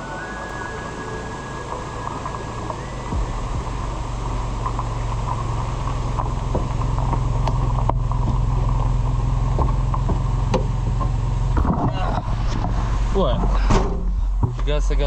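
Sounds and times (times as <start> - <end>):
car engine and road hum: 0.0 - 15.0.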